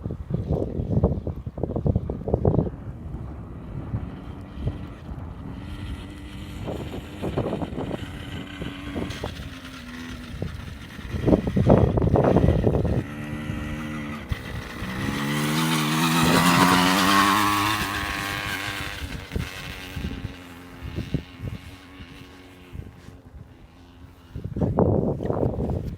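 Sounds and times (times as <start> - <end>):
motorbike engine revving: 2.2 - 25.9.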